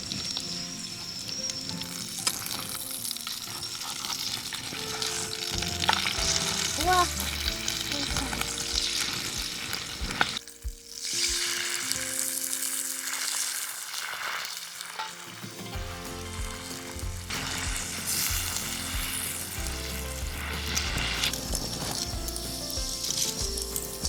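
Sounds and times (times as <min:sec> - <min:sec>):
food sizzling in frying pan: 0:00.0 - 0:24.0.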